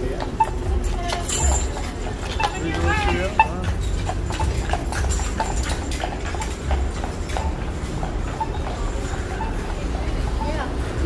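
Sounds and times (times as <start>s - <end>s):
horse hooves clip-clopping on pavement: 0.0s - 11.0s.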